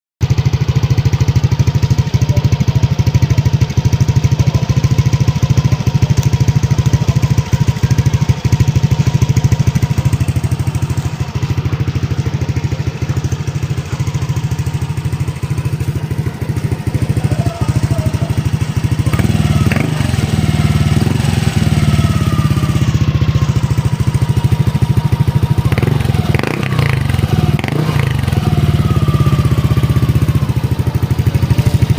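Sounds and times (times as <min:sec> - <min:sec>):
motorcycle engine idling: 0:00.2 - 0:31.9.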